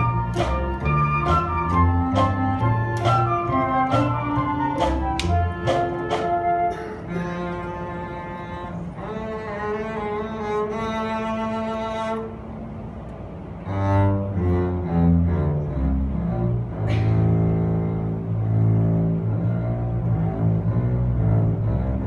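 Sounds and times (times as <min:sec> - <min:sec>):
double bass bowed notes: 0:00.0 - 0:12.5, 0:13.5 - 0:22.0
string orchestra playing: 0:00.0 - 0:12.6, 0:13.4 - 0:22.0.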